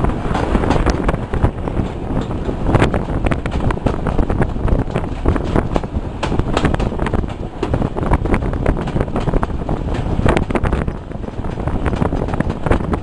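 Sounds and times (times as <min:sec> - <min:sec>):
train rumble: 0:00.0 - 0:13.0
wheels clattering on track: 0:00.0 - 0:13.0
wind buffeting microphone: 0:00.0 - 0:13.0.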